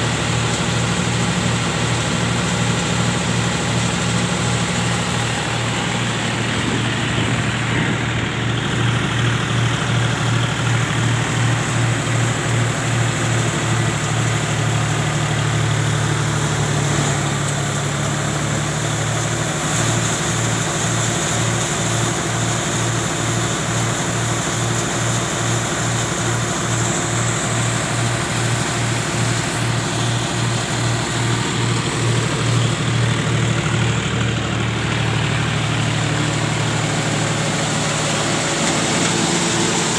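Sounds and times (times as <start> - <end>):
engine throbbing: 0.0 - 39.9.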